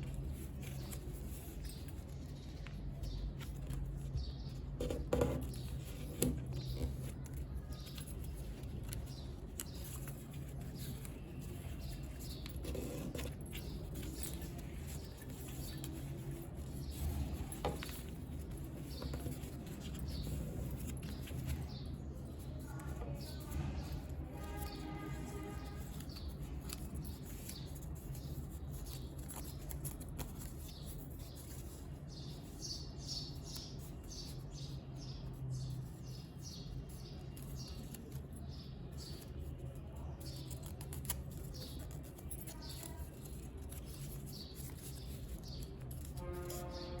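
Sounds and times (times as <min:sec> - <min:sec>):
paper rustling and creasing: 0:00.0 - 0:32.6, 0:35.2 - 0:47.0.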